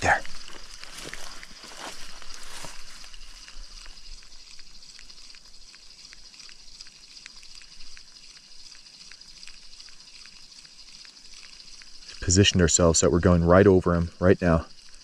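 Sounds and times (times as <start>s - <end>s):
faint steady hiss: 0.0s - 15.0s
fishing reel ticking: 0.1s - 15.0s.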